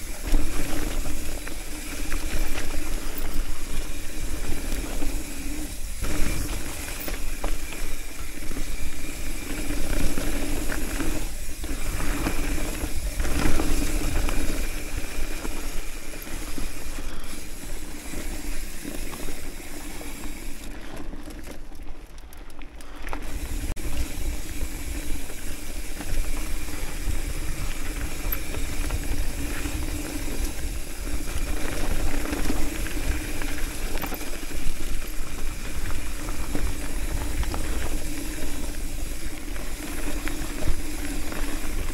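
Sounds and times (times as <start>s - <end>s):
bike rattling clicks: 0.0s - 41.9s
bike tyres crunching over gravel: 0.0s - 41.9s.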